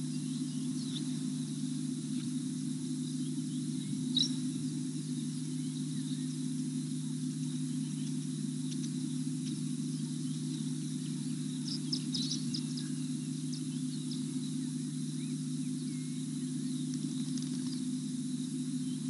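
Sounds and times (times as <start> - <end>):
birds chirping: 0.0 - 1.4, 3.0 - 18.0
high insect drone: 0.0 - 19.0
steady low hum: 0.0 - 19.0.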